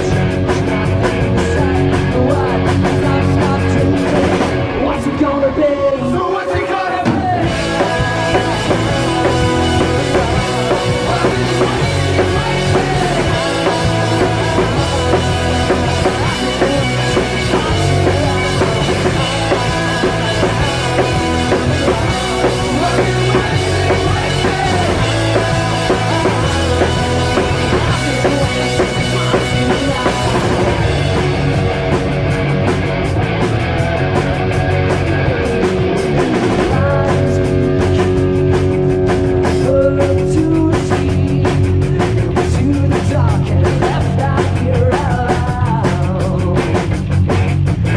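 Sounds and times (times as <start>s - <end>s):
drum kit: 0.0s - 47.9s
electric guitar: 0.0s - 47.9s
rock band playing: 0.0s - 47.9s.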